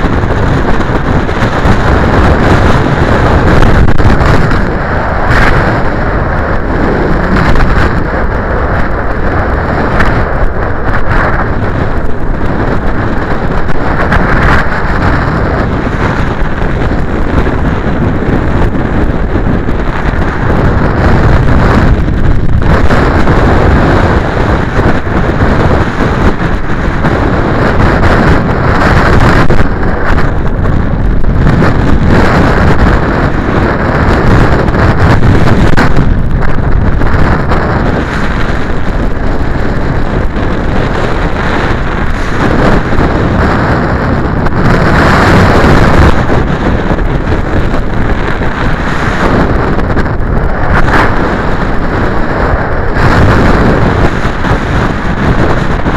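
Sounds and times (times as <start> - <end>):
strong wind buffeting microphone: 0.0 - 55.9.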